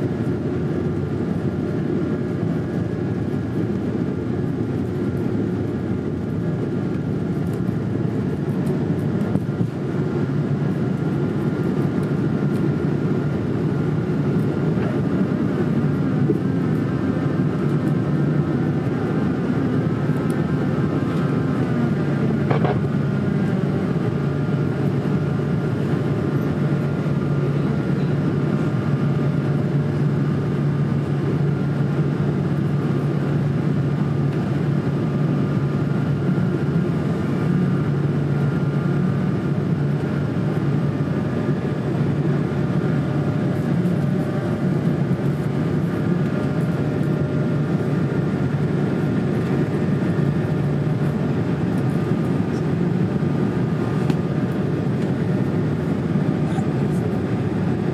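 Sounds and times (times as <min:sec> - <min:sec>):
jet engine drone: 0:00.0 - 0:57.9.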